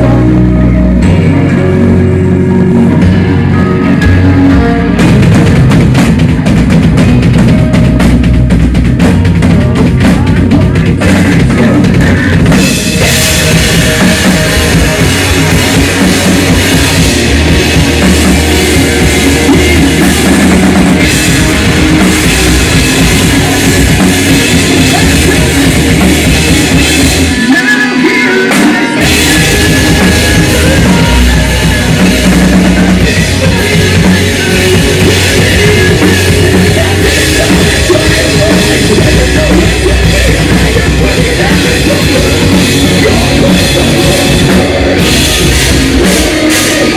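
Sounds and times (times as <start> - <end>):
drum kit: 0.0 - 46.9
electric guitars: 0.0 - 46.9.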